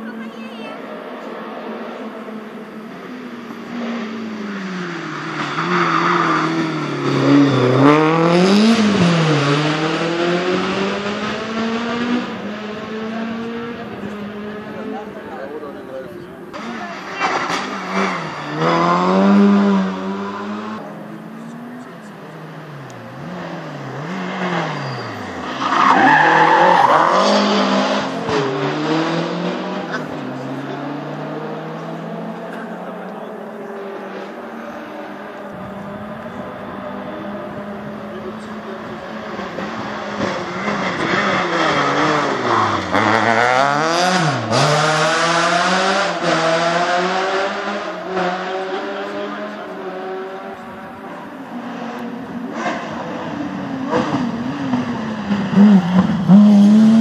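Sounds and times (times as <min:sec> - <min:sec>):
car engine revving: 0:00.8 - 0:57.0.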